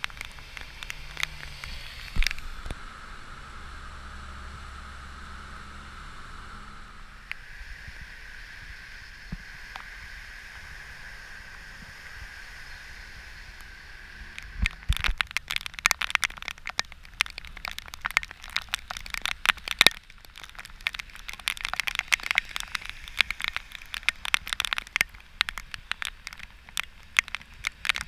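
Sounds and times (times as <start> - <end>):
heavy rain: 0.0 - 2.8, 6.9 - 28.0
raindrops hitting microphone: 0.0 - 2.9, 4.0 - 28.0.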